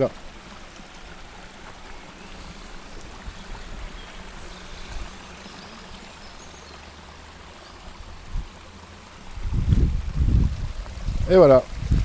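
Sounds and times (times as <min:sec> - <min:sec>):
stream running: 0:00.0 - 0:12.0.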